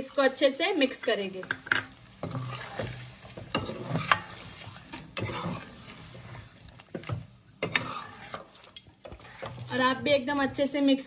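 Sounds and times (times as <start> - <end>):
low sizzle: 0.0 - 11.0
spatula scraping metal pan: 1.7 - 11.0.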